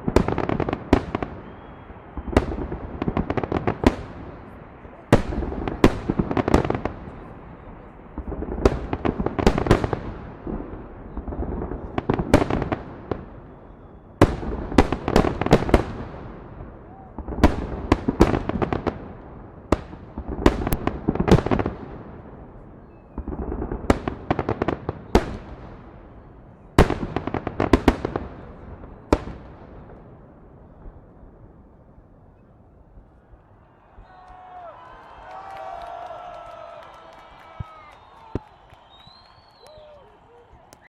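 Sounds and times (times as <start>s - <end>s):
rumble of fireworks: 0.0s - 40.9s.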